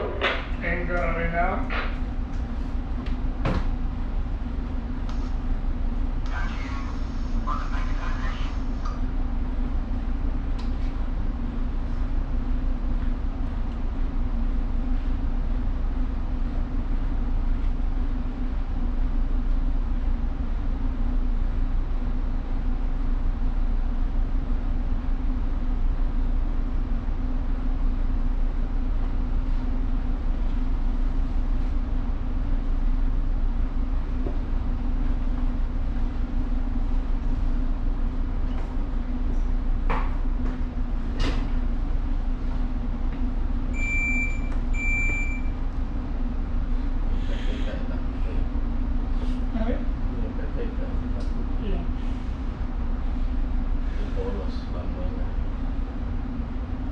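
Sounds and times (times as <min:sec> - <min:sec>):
ship engines rumbling: 0:00.0 - 0:56.9.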